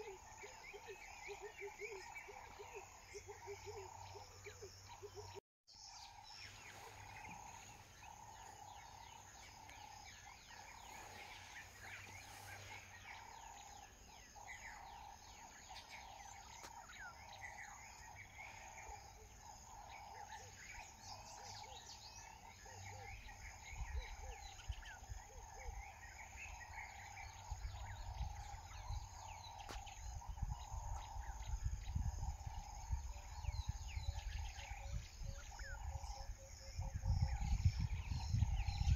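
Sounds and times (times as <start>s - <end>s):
bird chirps: 0.0s - 38.9s
insect chorus: 0.0s - 38.9s.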